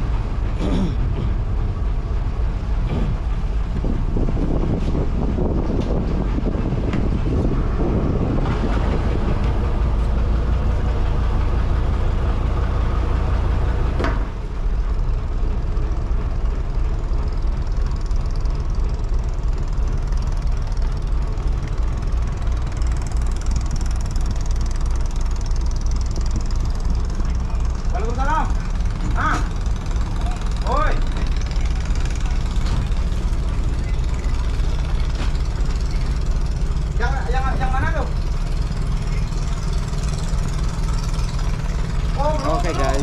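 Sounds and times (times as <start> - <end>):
boat engine idling: 0.0 - 43.0.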